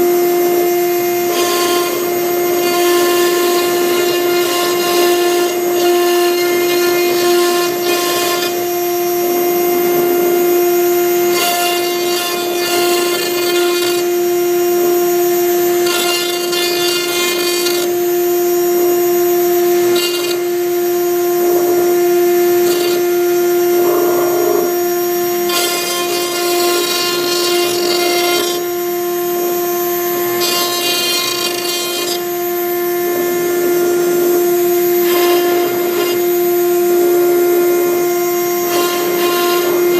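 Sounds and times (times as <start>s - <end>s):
router bit cutting wood: 0.0s - 39.9s
router spindle high whine: 0.0s - 39.9s.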